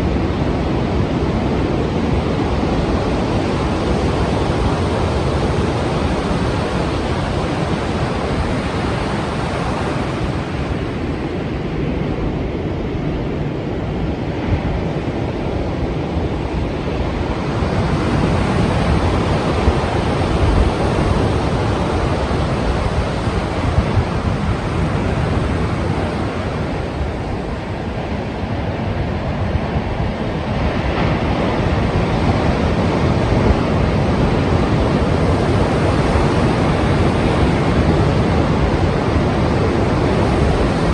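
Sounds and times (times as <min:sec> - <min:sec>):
sea waves breaking: 0:00.0 - 0:11.8, 0:14.2 - 0:40.9.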